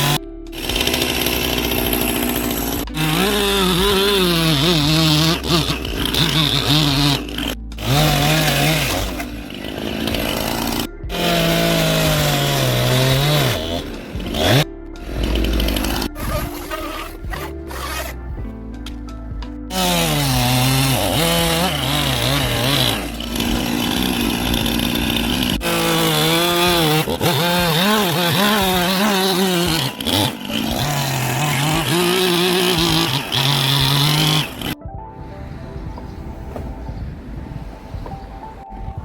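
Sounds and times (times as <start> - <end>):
chainsaw cutting wood: 0.0 - 34.8
background music: 0.0 - 39.0.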